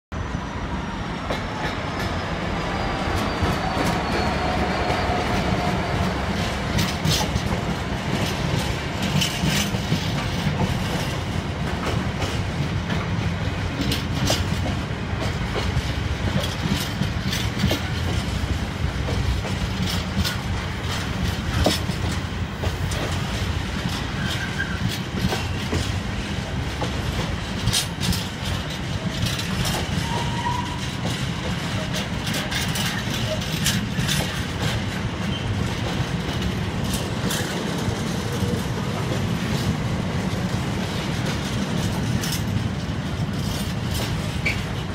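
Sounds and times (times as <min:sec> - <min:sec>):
diesel locomotive passing: 0:00.1 - 0:44.9
freight wagons rumbling: 0:01.0 - 0:44.9
wheels clicking over rail joints: 0:03.1 - 0:44.9.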